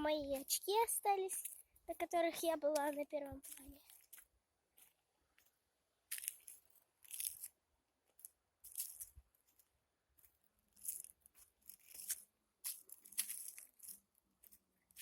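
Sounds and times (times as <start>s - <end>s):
footsteps on stony ground: 0.0s - 15.0s.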